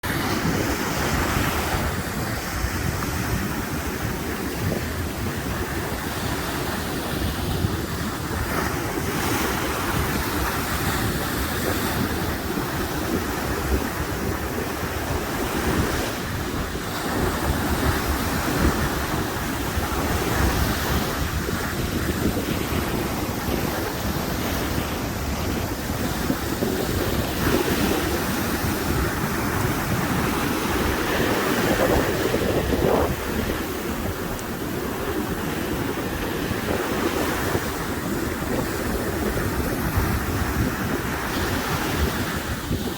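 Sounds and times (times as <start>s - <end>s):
ocean waves breaking: 0.0s - 42.9s
wind buffeting microphone: 0.0s - 42.9s.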